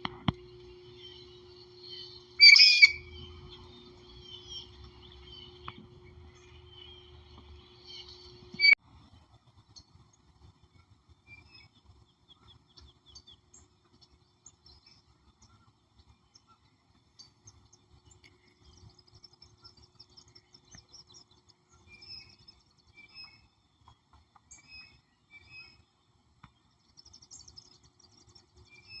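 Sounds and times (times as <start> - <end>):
songbirds chirping and singing: 0.1 - 29.0.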